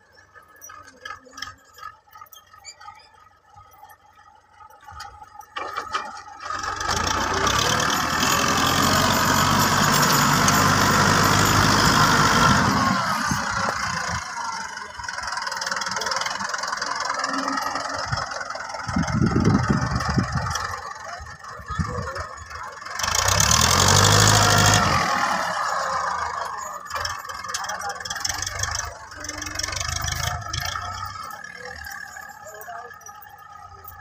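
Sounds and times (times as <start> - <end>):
tractor diesel engine running: 0.0 - 34.0
rotary tiller churning soil: 5.6 - 34.0.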